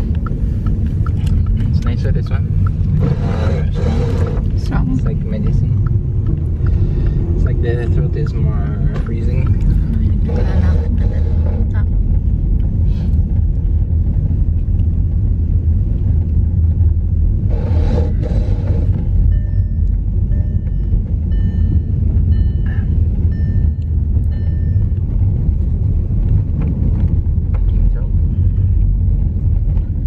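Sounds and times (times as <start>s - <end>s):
car road rumble: 0.0s - 30.0s.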